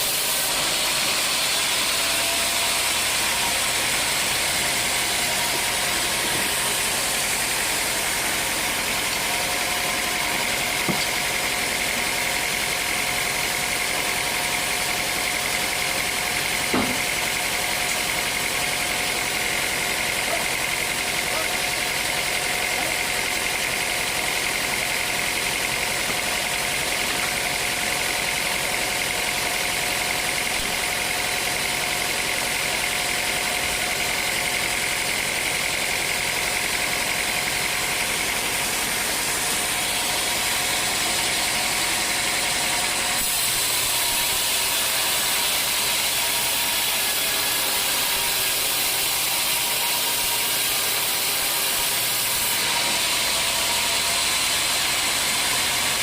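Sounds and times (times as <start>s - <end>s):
band sawmill running: 0.0s - 56.0s
steady saw whine: 0.0s - 56.0s.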